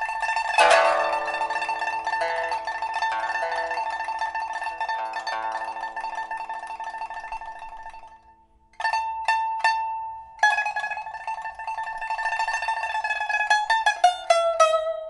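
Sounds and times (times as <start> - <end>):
pipa plucked notes and tremolo: 0.0 - 15.0.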